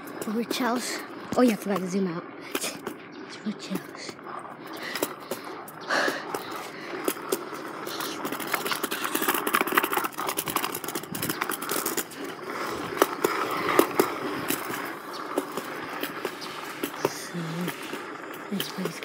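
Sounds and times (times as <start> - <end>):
wheels clattering over paving: 0.0 - 19.0.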